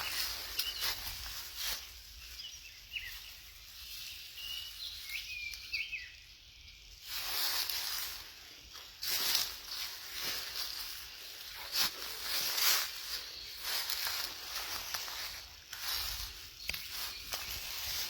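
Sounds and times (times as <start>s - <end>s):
footsteps rustling through undergrowth: 0.0s - 5.8s, 6.9s - 18.0s
birds chirping and whistling: 0.0s - 18.0s.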